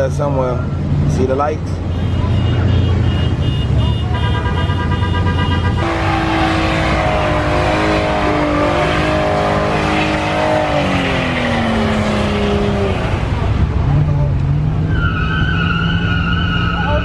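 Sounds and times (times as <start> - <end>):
car engine revving: 0.7 - 17.0.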